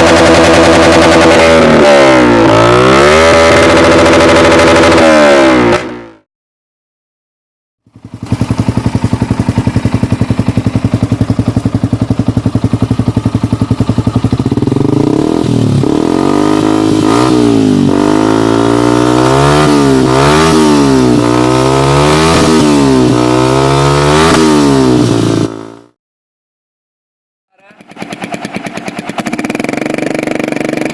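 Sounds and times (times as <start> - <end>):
motorcycle engine idling and revving: 0.0 - 6.3, 7.8 - 26.0, 27.5 - 30.9.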